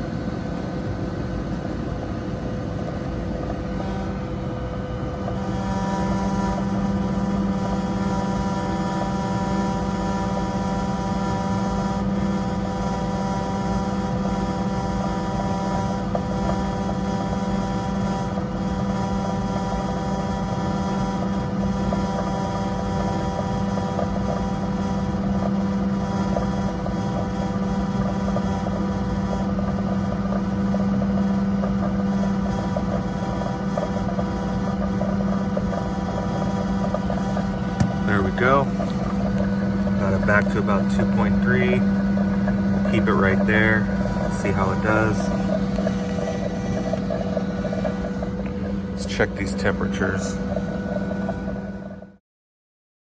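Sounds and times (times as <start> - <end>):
gas furnace humming: 0.0 - 52.2.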